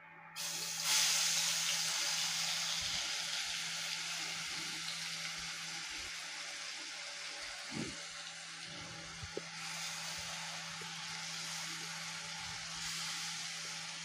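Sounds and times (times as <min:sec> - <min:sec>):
paste sizzling in hot oil: 0:00.4 - 0:14.0.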